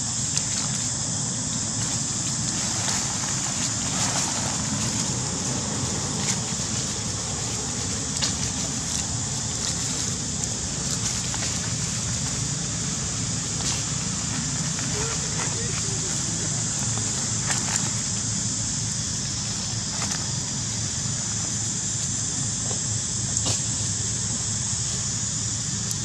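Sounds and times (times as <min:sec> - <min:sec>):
dry leaves crackling: 0:00.0 - 0:25.8
high hiss: 0:00.0 - 0:26.0.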